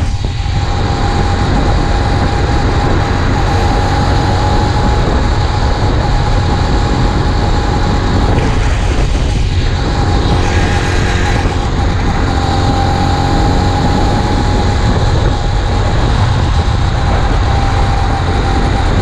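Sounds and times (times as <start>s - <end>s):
small engine running: 0.0s - 19.0s
wind rumble on microphone: 0.0s - 19.0s.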